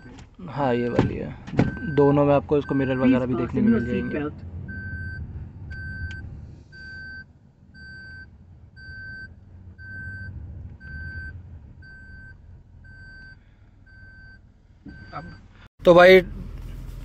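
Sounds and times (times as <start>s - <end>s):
low engine hum: 0.0s - 17.0s
car warning chime beeping: 0.7s - 15.6s.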